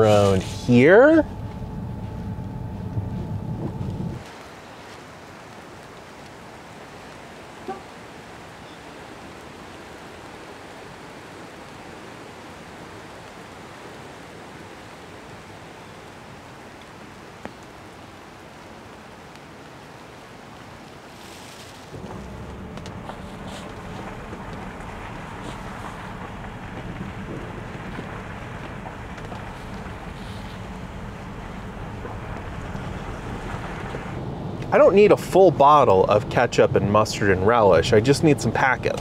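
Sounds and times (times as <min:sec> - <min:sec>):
rain ticking on windshield: 0:00.0 - 0:21.1, 0:21.7 - 0:39.0
rain hissing: 0:00.0 - 0:39.0
tyres rumbling on wet road: 0:00.0 - 0:39.0.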